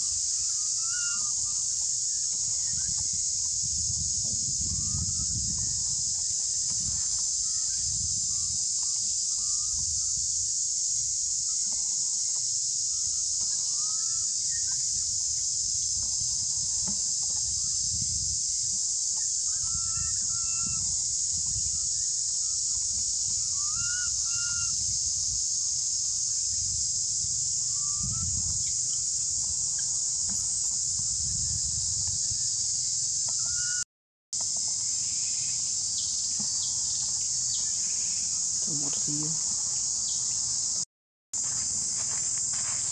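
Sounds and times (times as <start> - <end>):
high-pitched insect drone: 0.0 - 33.8, 34.4 - 42.9.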